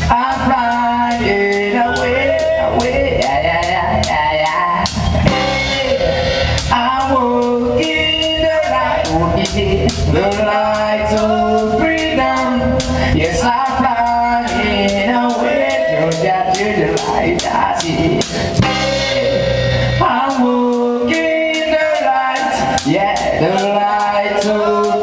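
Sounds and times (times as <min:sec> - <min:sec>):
drum beat with cymbals: 0:00.0 - 0:25.0
guitar: 0:00.0 - 0:25.0
person singing: 0:00.0 - 0:25.0.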